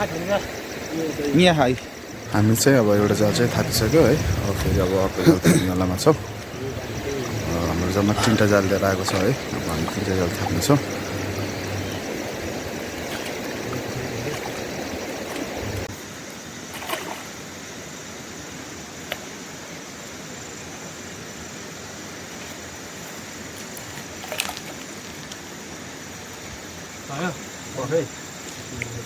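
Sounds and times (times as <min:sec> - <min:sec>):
river water running over stones: 0:00.0 - 0:29.0.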